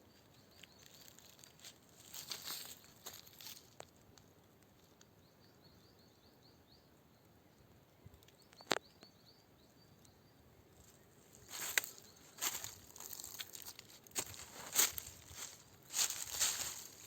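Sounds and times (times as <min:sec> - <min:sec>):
small bird chirping: 0:00.0 - 0:03.5, 0:04.8 - 0:17.0
quiet forest background: 0:00.0 - 0:17.0.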